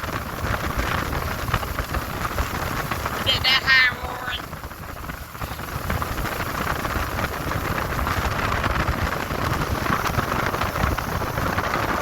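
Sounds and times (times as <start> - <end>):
boat motor rushing: 0.0 - 12.0
wind on microphone: 0.0 - 12.0.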